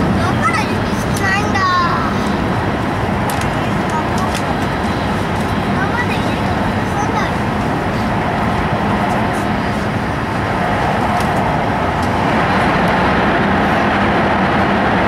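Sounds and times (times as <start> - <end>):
train cabin rushing noise: 0.0 - 15.0.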